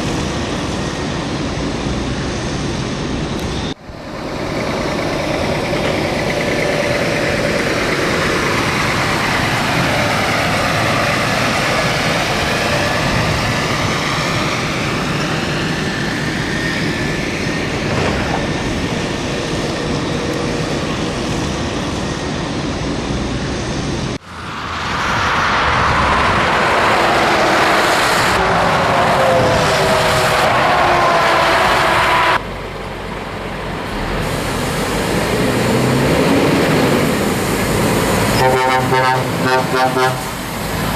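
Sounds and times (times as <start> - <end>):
truck engine and tyre noise: 0.0 - 40.9.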